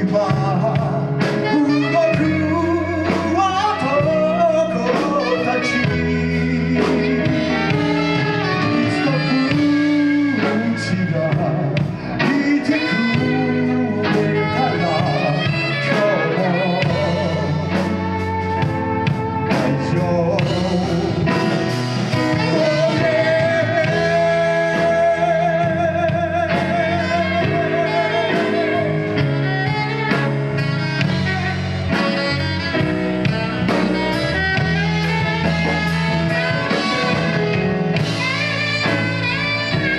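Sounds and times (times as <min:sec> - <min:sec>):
band playing guitar bass and drums: 0:00.0 - 0:39.9
person singing: 0:00.0 - 0:39.9.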